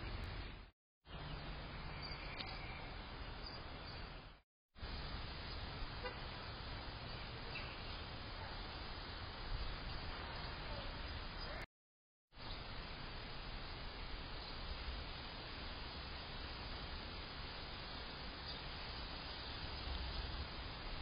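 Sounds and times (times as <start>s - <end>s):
outdoor background hiss: 0.0s - 11.7s, 12.3s - 21.0s.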